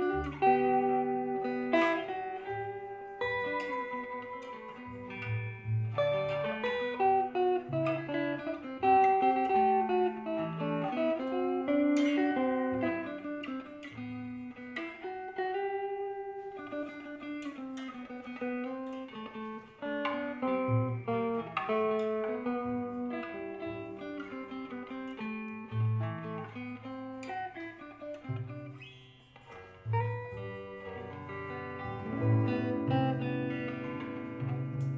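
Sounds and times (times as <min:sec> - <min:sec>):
guitar playing: 0:00.0 - 0:34.9.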